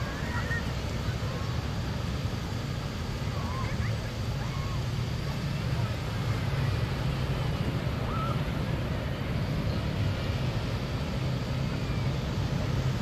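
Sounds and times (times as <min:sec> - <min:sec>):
waves breaking on sand: 0:00.0 - 0:13.0
wind rumble on microphone: 0:00.0 - 0:13.0.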